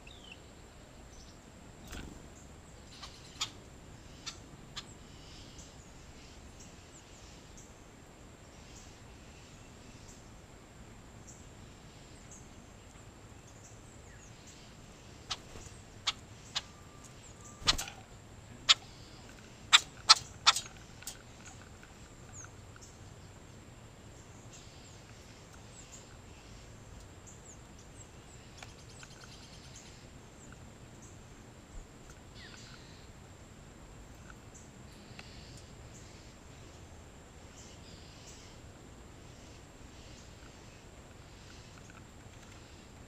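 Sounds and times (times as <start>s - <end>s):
faint bird chirps: 0.0s - 10.4s, 11.2s - 33.2s, 34.2s - 43.0s.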